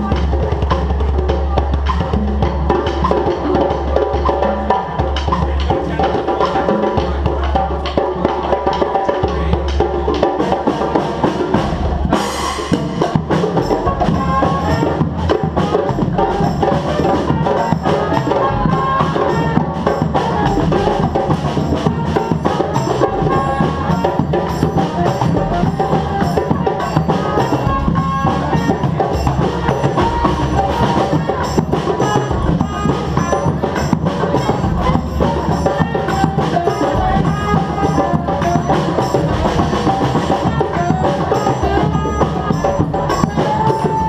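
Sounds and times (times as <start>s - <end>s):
live band with drums and percussion: 0.0s - 44.0s.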